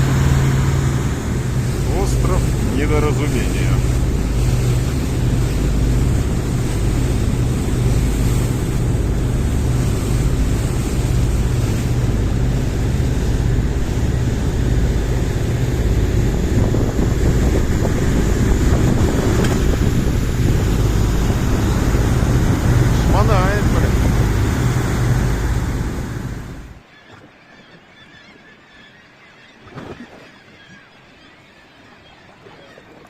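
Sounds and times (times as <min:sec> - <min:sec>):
motorboat engine running: 0:00.0 - 0:26.8
wind buffeting microphone: 0:00.0 - 0:26.8
sea water rushing: 0:00.0 - 0:33.0.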